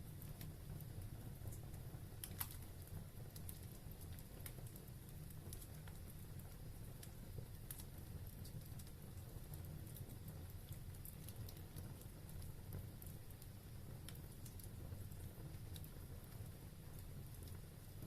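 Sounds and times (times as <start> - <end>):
fire flames rumbling: 0.0 - 18.0
wood fire crackling and popping: 0.0 - 18.0.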